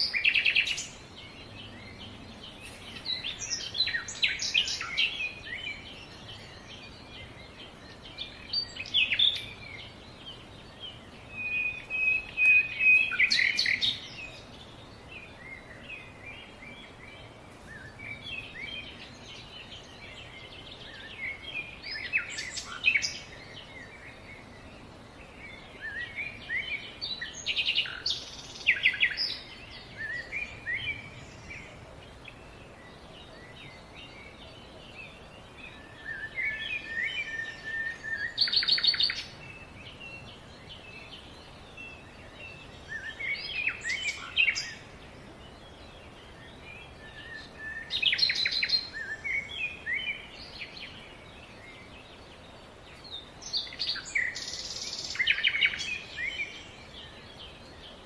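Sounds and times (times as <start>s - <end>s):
background hiss: 0.0s - 58.0s
songbird chirps and trill: 0.0s - 58.0s.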